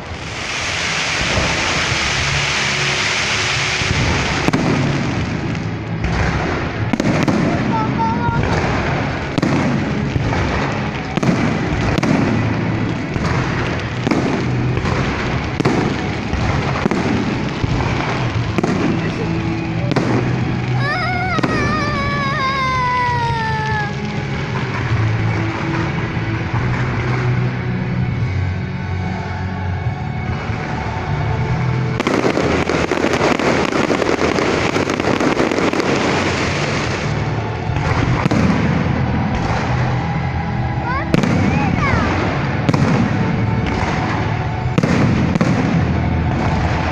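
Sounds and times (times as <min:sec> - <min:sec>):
fireworks bangs: 0:00.0 - 0:27.6, 0:30.3 - 0:46.9
fireworks crackling: 0:00.0 - 0:46.9.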